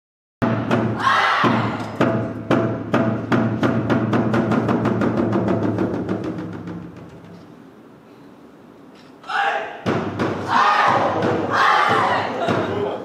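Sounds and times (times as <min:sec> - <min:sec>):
drum strokes: 0:00.4 - 0:07.8, 0:09.8 - 0:13.0.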